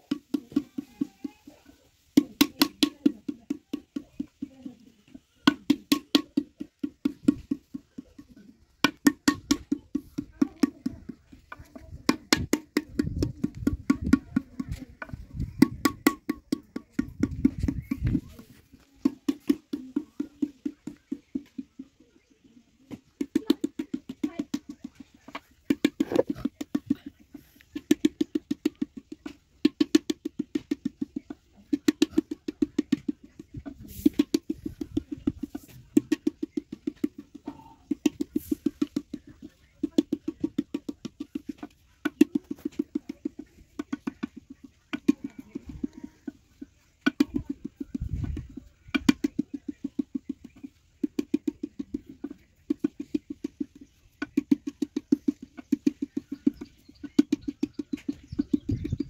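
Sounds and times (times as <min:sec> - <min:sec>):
wooden paddle knocking clay pot: 0:00.0 - 0:22.3, 0:22.9 - 0:59.0.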